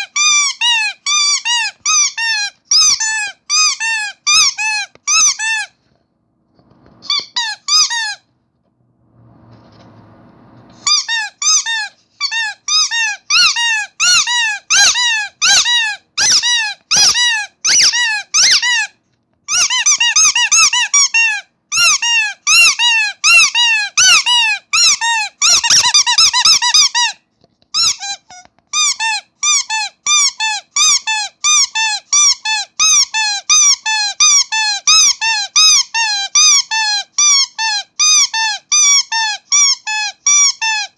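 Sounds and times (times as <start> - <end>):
squeaky toy squeaking: 0.0 - 5.8, 7.0 - 8.3, 10.8 - 40.9.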